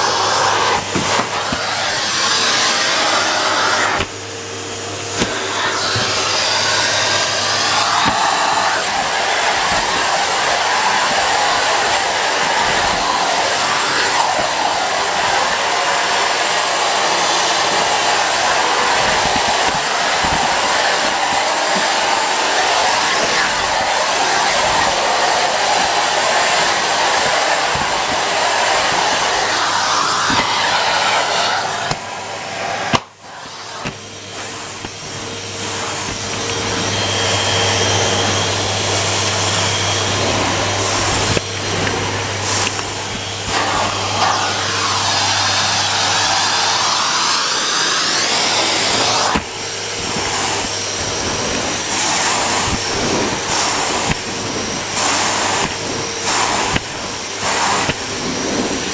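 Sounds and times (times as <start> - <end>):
vacuum cleaner on tiled floor: 0.0 - 58.9.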